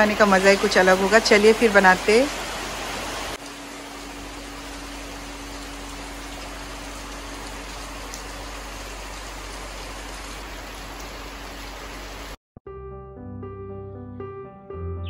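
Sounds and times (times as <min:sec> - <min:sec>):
heavy rain on foliage: 0:00.0 - 0:12.4.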